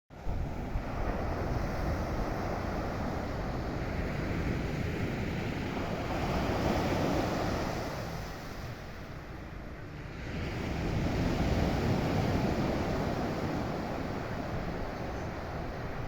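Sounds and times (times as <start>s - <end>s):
wind rumbling on microphone: 0.1s - 16.0s
sea waves washing ashore: 0.2s - 16.0s.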